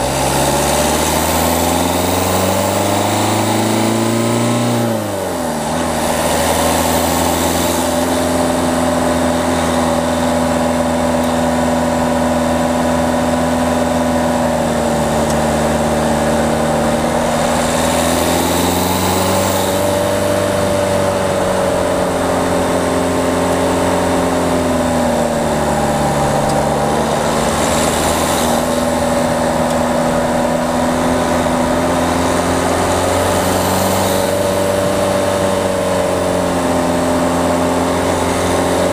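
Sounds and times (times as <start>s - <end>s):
diesel car engine under load: 0.0s - 38.9s
road and wind noise: 0.0s - 38.9s.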